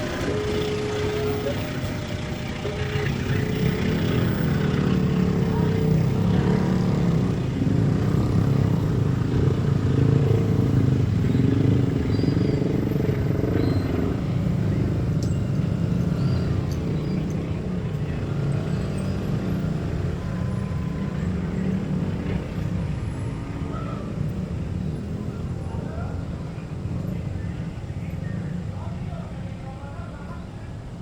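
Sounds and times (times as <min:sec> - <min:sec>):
train rumbling past: 0:00.0 - 0:29.2.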